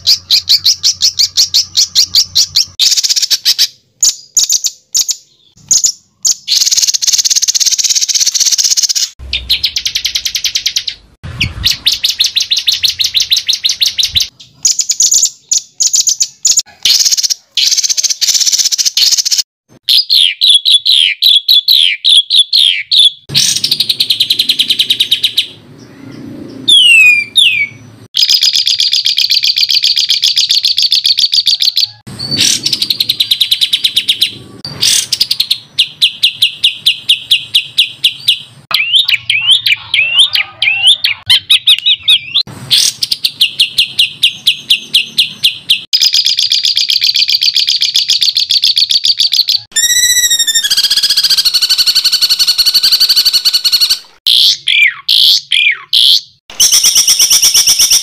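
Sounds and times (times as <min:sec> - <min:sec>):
songbird chirps and trills: 0:00.0 - 0:58.0.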